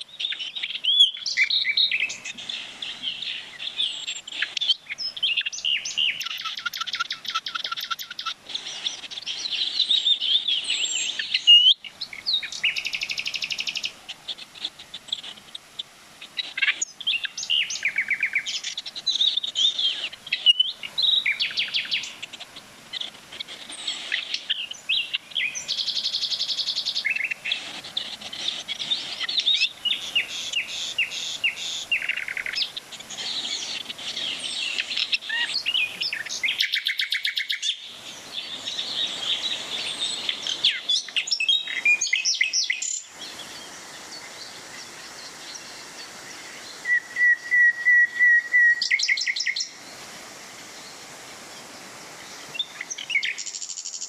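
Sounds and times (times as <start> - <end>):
songbirds chirping and whistling: 0.0 - 54.0.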